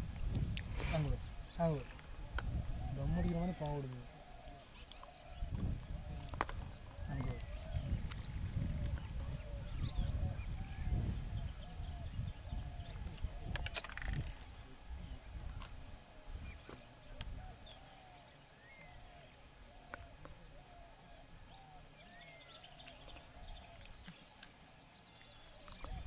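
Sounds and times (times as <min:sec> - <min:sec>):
low-pitched bird notes: 0:00.0 - 0:26.0.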